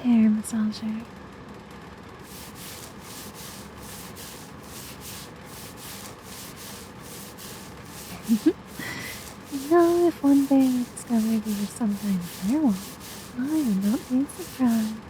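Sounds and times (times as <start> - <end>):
massager scratching on microphone: 2.2 - 15.0.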